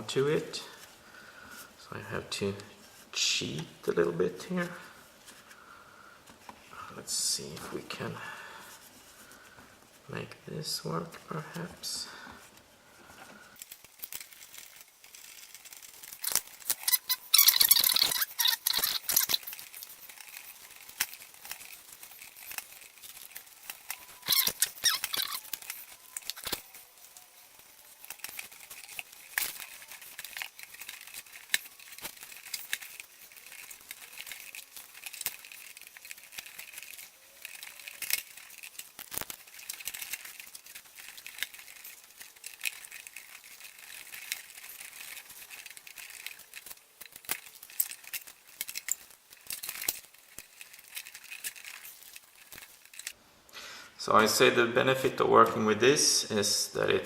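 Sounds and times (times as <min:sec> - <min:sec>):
heat wrap crinkling and rustling: 0:00.0 - 0:53.2.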